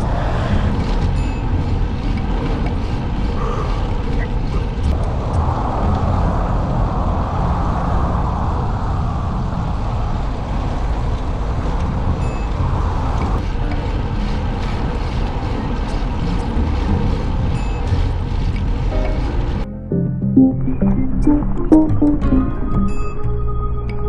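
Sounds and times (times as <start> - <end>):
wind rumbling on microphone: 0.0 - 19.7.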